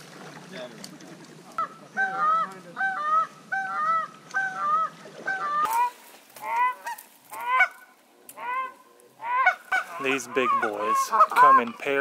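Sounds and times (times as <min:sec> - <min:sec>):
goose honking: 0:01.6 - 0:12.0.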